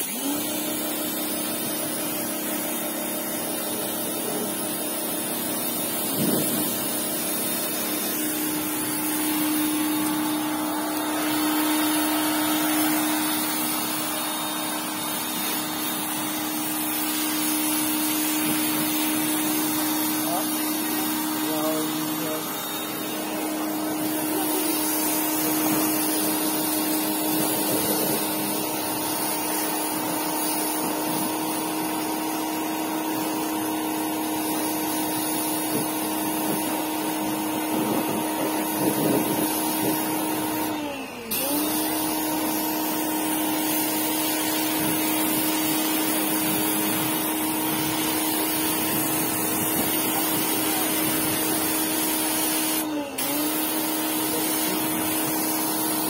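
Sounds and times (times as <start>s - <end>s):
pressure washer motor hum: 0.0s - 56.0s
water jet hissing: 0.0s - 56.0s.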